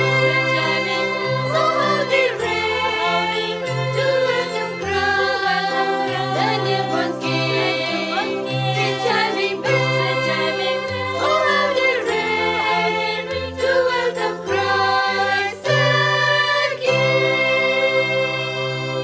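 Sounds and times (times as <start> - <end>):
choir singing: 0.0 - 19.0
sustained instrumental chords: 0.0 - 19.0.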